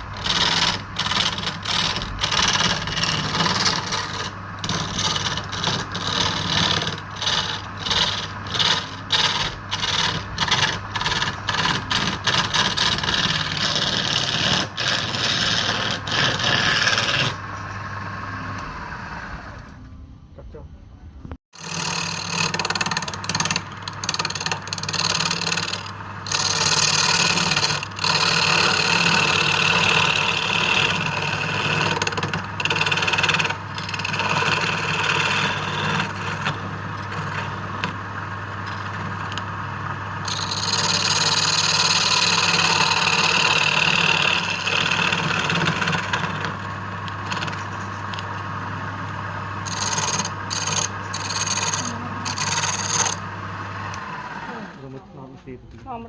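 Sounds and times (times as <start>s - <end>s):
tool cutting spinning wood: 0.0s - 19.7s, 21.5s - 55.1s
lathe motor humming: 0.0s - 19.8s, 21.6s - 55.3s.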